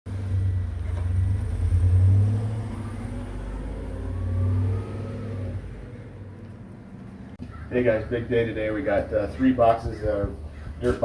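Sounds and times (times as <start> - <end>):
vehicle engine droning: 0.1 - 11.0.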